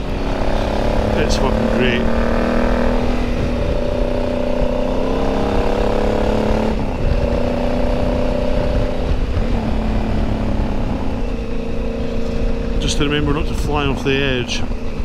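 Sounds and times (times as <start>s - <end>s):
motorcycle engine running: 0.0s - 15.0s
wind rumble: 0.0s - 15.0s.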